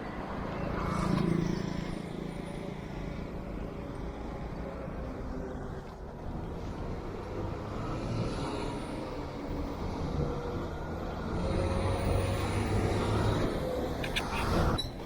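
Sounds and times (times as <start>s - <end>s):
road and wind rush: 0.0s - 15.0s.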